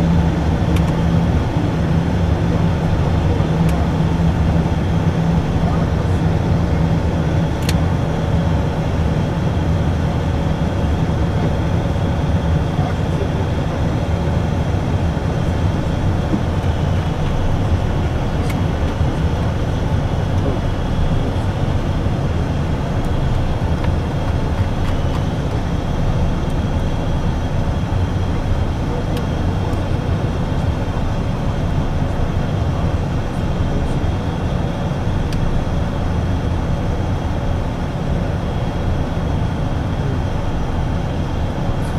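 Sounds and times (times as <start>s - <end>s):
airflow in cockpit: 0.0s - 41.9s
jet engines low rumble: 0.0s - 41.9s.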